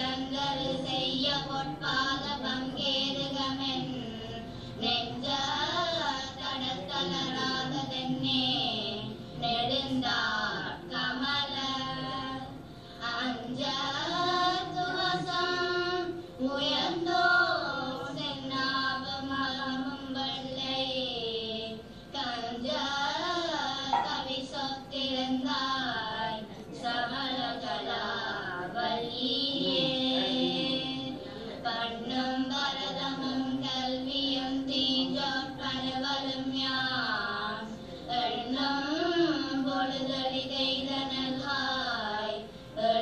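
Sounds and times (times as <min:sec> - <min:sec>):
girls singing a hymn in unison: 0:00.0 - 0:43.0.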